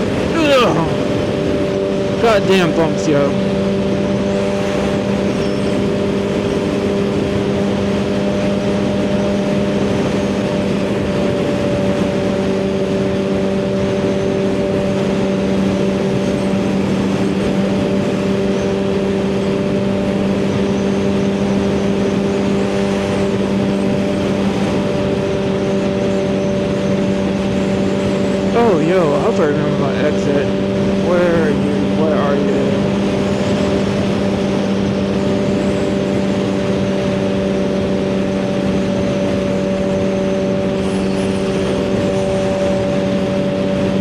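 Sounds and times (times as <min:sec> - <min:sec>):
motorcycle engine droning: 0:00.0 - 0:44.0.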